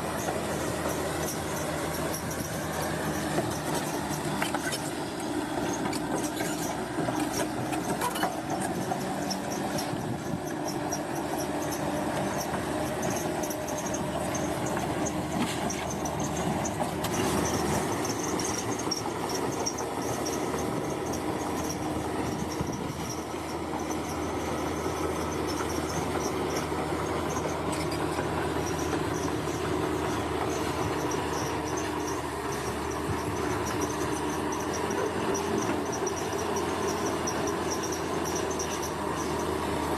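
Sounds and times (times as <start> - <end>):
bulldozer engine running: 0.0 - 39.9.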